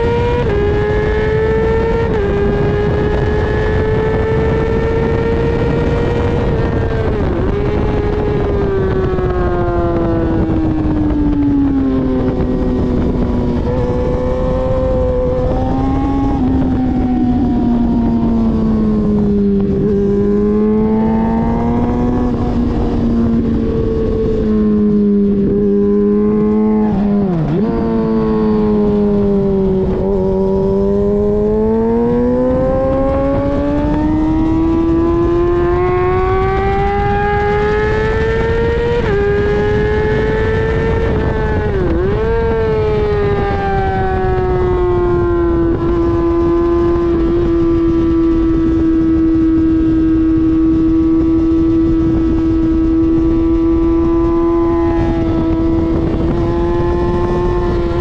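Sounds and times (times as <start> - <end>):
motorcycle engine racing: 0.0 - 58.0.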